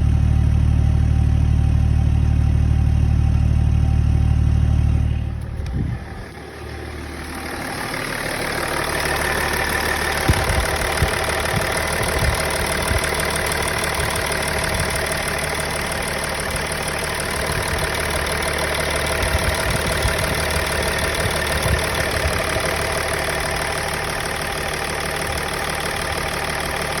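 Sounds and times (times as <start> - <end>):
car engine idling unevenly: 0.0 - 27.0.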